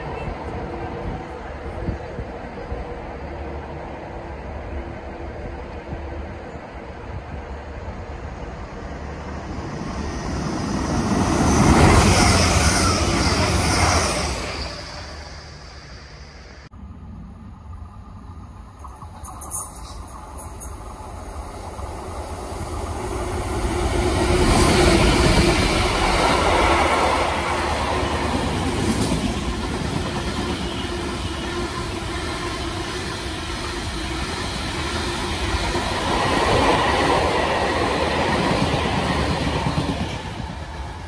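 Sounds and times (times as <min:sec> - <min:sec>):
diesel locomotive passing: 0:00.0 - 0:41.0
wagons rumbling over rails: 0:00.0 - 0:41.0.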